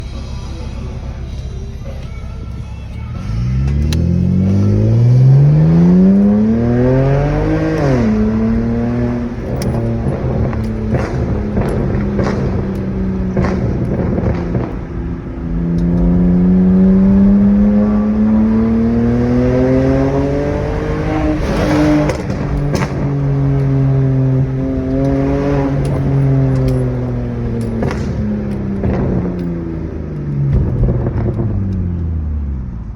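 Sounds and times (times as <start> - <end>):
car exhaust popping and crackling: 0.0 - 32.9.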